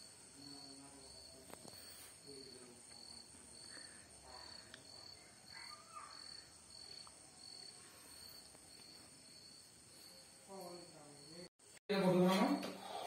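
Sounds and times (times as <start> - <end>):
insect high trill: 0.0 - 11.5
insect pulsing chirp: 0.0 - 11.5.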